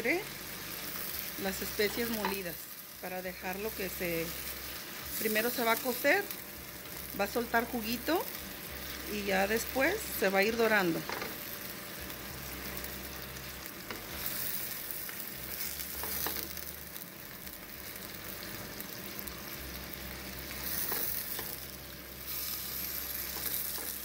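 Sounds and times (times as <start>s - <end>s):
meat sizzling in a pan: 0.0s - 24.0s.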